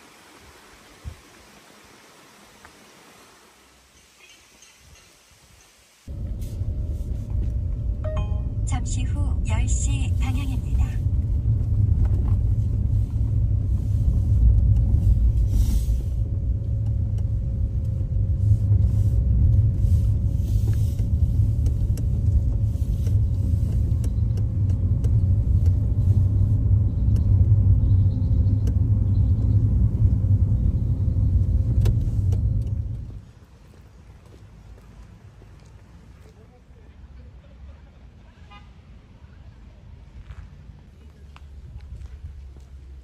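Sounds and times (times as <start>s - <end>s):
road and engine rumble: 0.0s - 43.0s.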